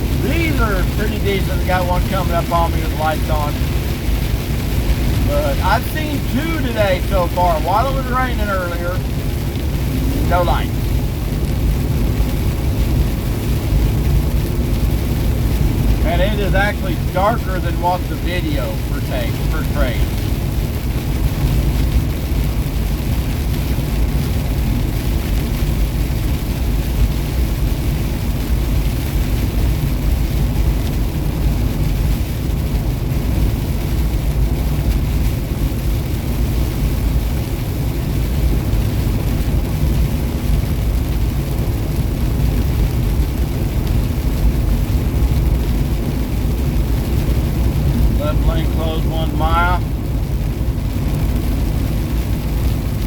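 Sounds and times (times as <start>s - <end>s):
truck engine and road rumble: 0.0s - 53.0s.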